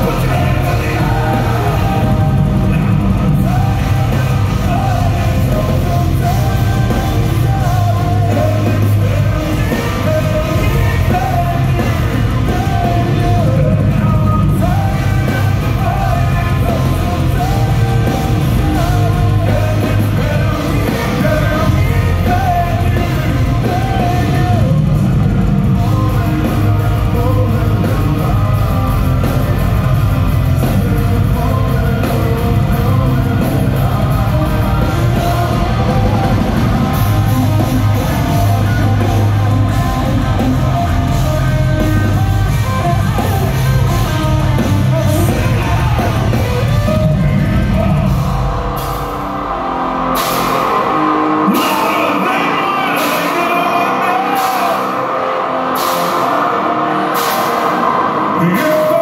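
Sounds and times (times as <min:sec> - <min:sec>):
heavy metal band playing live: 0:00.0 - 0:59.0
sung lead vocal: 0:00.0 - 0:59.0.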